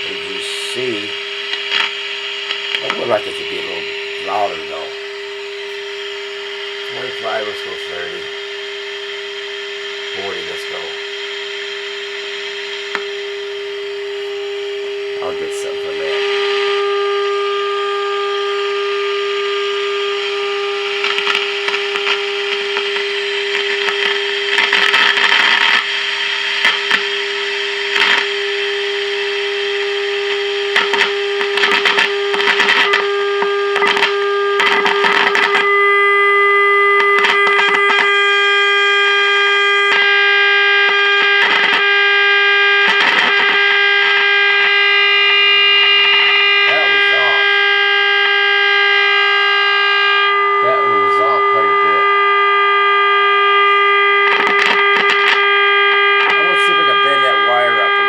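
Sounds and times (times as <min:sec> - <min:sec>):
buzzy test tone from radio speaker: 0:00.0 - 0:58.0
crackling static: 0:00.0 - 0:58.0.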